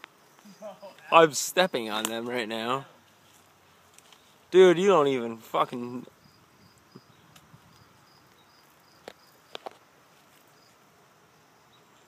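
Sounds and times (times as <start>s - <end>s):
cicadas pulsing drone: 0.0s - 12.0s.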